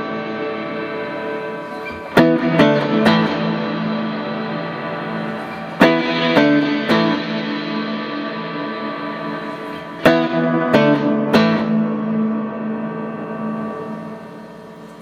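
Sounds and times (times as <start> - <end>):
electric guitar chords with reverb: 0.0 - 15.0.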